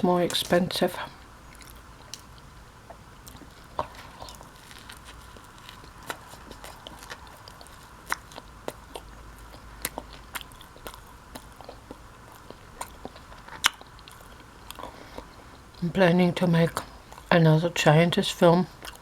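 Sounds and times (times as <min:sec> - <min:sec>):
mouth chewing with wet clicks: 0:00.1 - 0:19.0.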